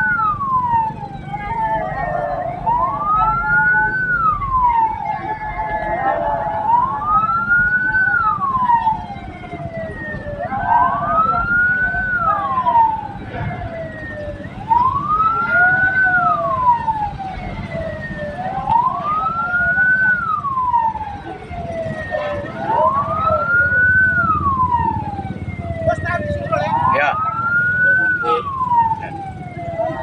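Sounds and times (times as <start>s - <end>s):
siren wailing: 0.0s - 30.0s
vehicle engine rumble: 0.0s - 30.0s.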